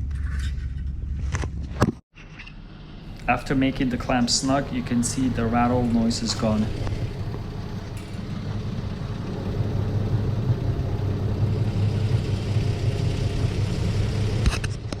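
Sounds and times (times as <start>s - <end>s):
car engine idling: 2.9s - 15.0s.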